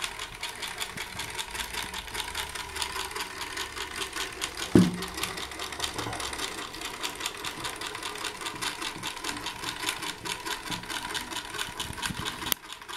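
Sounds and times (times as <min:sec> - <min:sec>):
clockwork motor whirring: 0:00.0 - 0:12.9.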